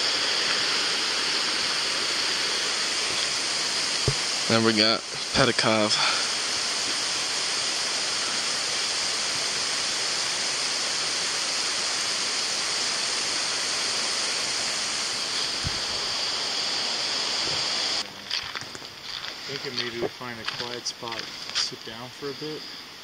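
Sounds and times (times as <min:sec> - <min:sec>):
rushing river water: 0:00.0 - 0:21.5.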